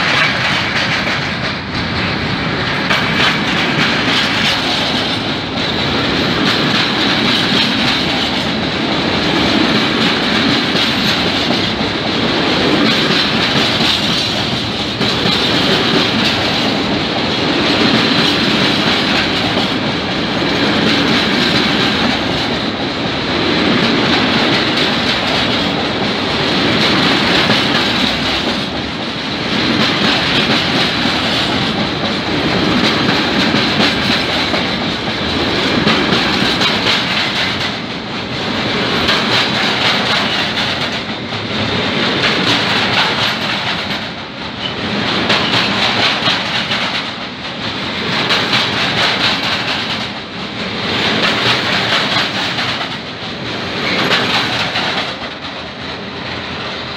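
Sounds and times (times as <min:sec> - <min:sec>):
freight train rumbling past: 0:00.0 - 0:56.9.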